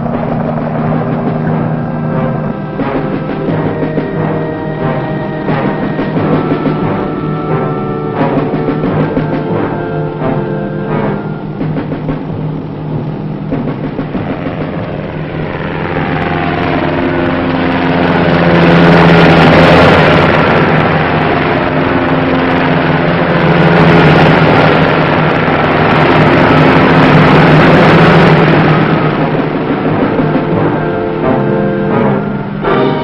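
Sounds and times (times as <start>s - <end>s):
helicopter flying past: 0.0s - 33.0s.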